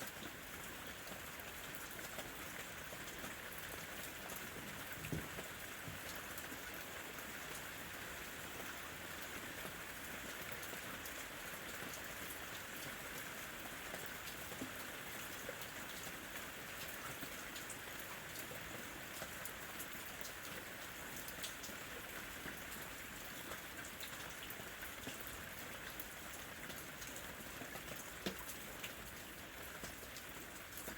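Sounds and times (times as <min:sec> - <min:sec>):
raindrops ticking close by: 0:00.0 - 0:30.9
steady rain falling: 0:00.0 - 0:30.9.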